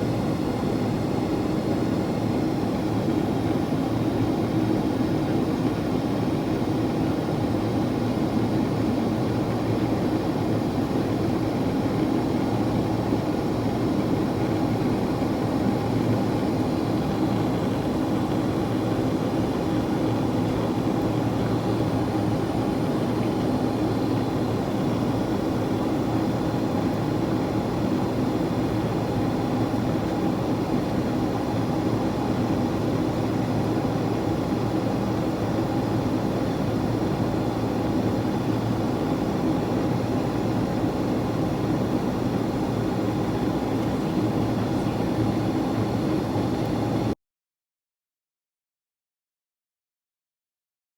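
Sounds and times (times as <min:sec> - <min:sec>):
aircraft cabin engine rumble: 0:00.0 - 0:47.2.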